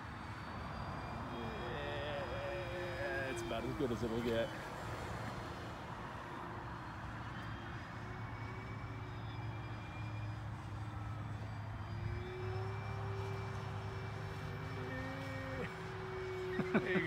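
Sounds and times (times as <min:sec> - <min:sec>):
model plane motors whining: 0:00.0 - 0:17.0.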